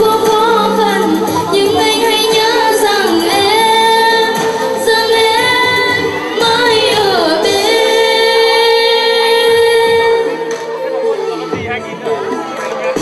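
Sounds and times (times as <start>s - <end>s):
woman singing into microphone: 0.0s - 11.6s.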